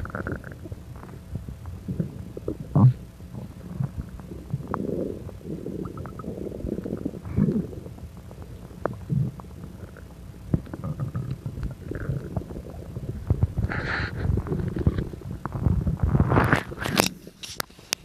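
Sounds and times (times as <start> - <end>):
stomach gurgling and bubbling: 0.0 - 18.0.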